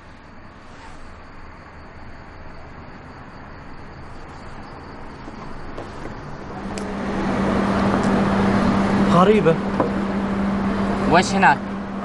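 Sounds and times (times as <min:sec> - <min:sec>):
road traffic rush: 0:00.0 - 0:12.0
steady low hum: 0:00.0 - 0:12.0.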